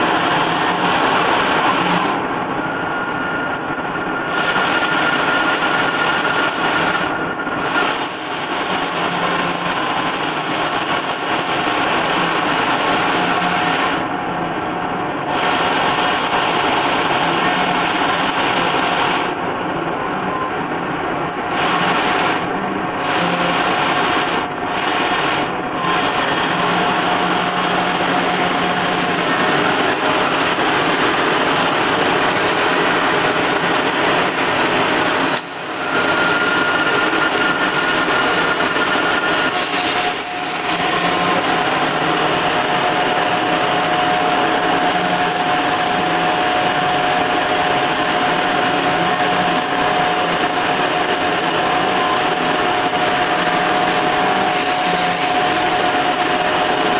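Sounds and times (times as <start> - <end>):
router cutting aluminium with whine: 0.0 - 56.9.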